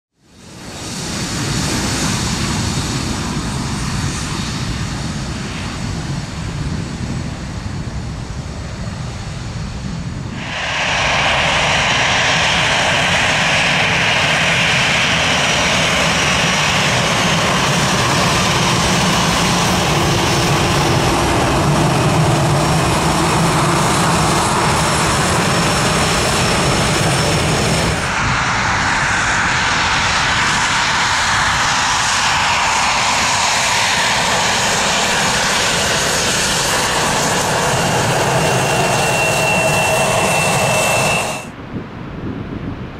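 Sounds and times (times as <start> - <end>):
jet airliner engines: 0.1 - 42.9.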